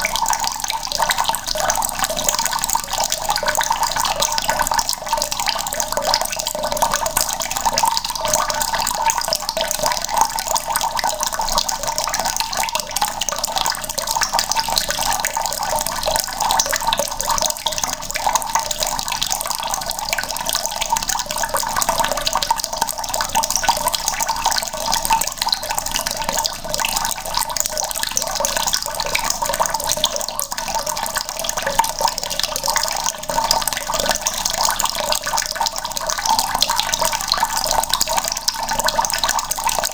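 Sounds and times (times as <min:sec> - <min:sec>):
tap water running into bucket: 0:00.0 - 0:39.9.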